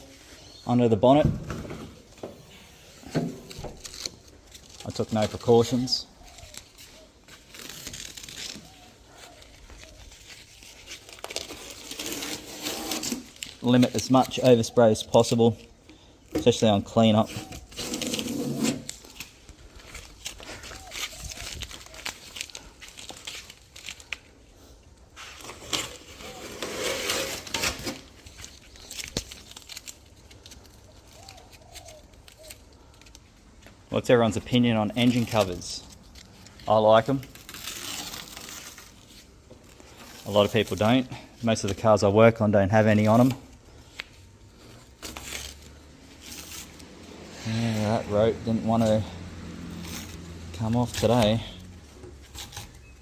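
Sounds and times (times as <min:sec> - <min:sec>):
masking tape peeling and tearing: 0:02.4 - 0:42.0, 0:42.8 - 0:53.0
paper or plastic crinkling: 0:02.5 - 0:42.1, 0:42.8 - 0:53.0.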